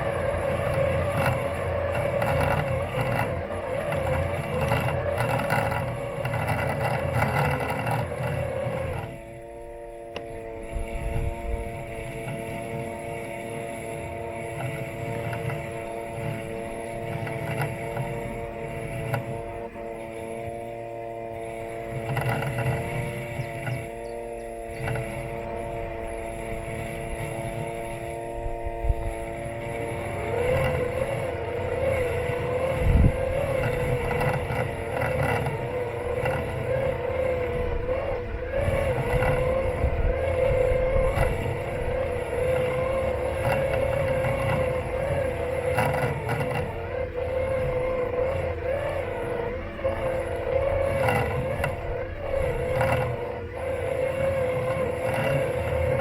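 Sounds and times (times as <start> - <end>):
electric motors whining: 0.0 - 56.0
wavering tone: 0.0 - 56.0.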